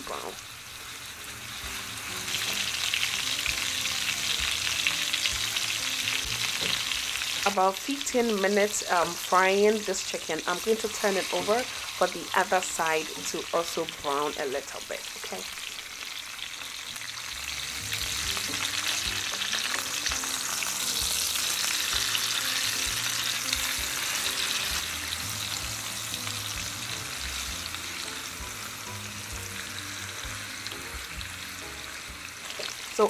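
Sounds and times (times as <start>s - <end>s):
chicken sizzling in frying pan: 0.0s - 33.0s.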